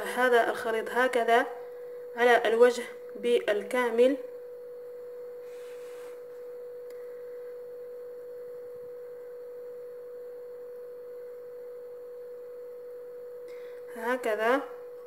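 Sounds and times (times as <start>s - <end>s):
pure tone: 0.0s - 15.0s.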